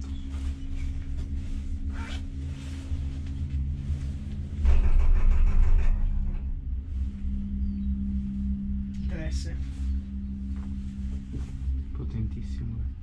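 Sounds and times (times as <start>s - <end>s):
gondola cabin hum and rumble: 0.0s - 13.0s
rattling rumble: 0.0s - 13.0s.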